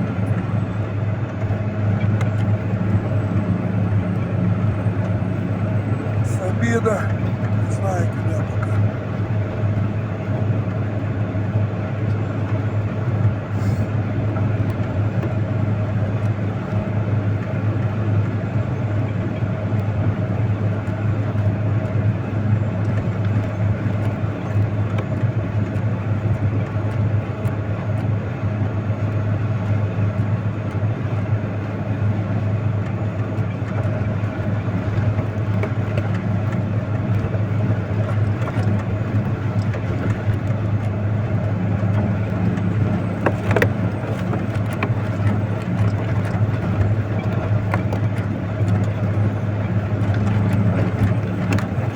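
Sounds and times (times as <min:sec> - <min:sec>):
heavy vehicle engine droning: 0:00.0 - 0:51.9.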